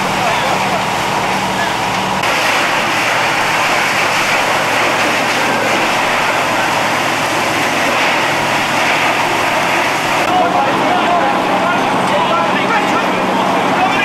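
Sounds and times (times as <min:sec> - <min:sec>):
hose water rushing: 0:00.0 - 0:14.0.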